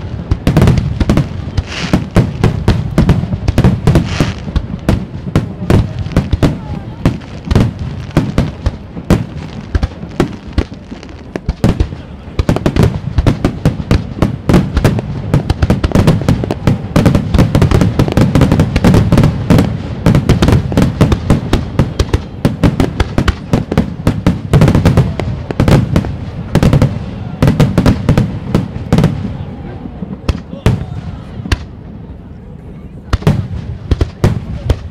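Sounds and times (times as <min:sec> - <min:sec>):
crackling firework reports: 0:00.0 - 0:34.9.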